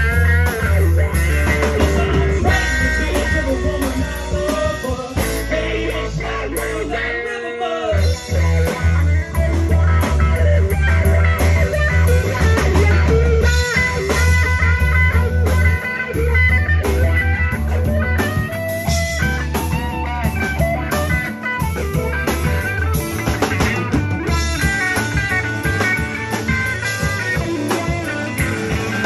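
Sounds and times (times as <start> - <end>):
lead electric guitar bent notes: 0.0 - 29.0
live rock band playing: 0.0 - 29.0.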